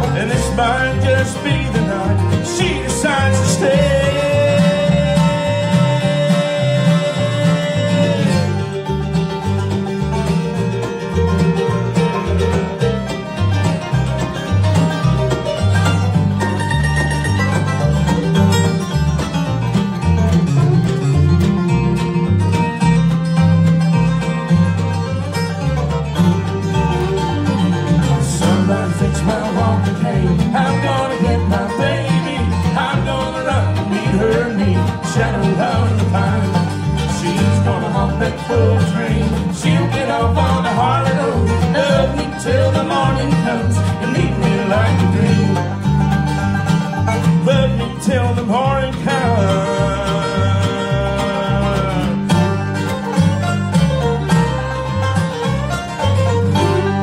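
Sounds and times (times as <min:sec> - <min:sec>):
acoustic guitar: 0:00.0 - 0:57.0
banjo: 0:00.0 - 0:57.0
fiddle: 0:00.0 - 0:57.0
mandolin: 0:00.0 - 0:57.0
upright bass: 0:00.0 - 0:57.0.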